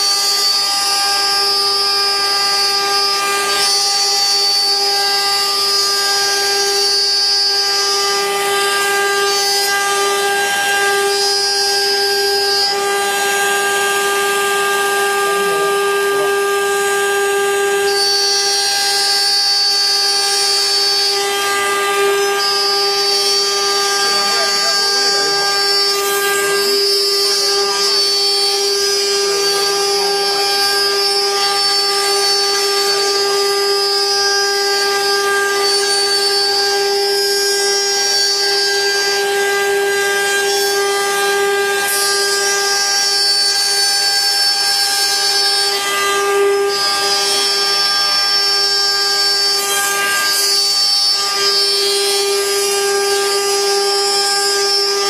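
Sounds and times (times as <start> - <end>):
router spindle whine: 0.0 - 55.0.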